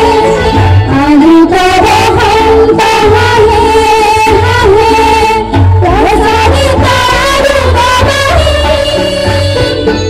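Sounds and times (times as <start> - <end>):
women singing together: 0.0 - 9.9
instrumental accompaniment: 0.0 - 10.0.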